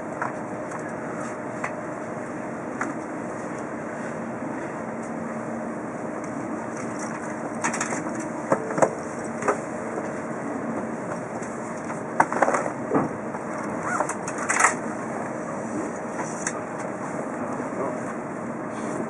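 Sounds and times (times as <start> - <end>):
train interior hum: 0.0 - 19.0.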